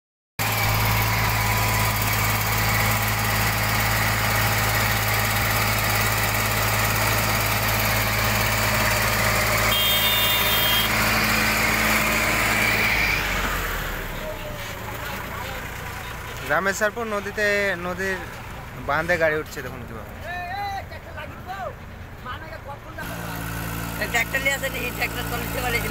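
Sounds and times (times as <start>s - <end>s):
tractor diesel engine droning: 0.4s - 25.9s.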